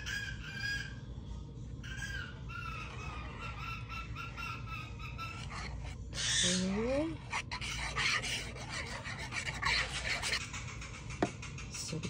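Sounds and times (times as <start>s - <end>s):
bird chattering: 1.8s - 11.8s.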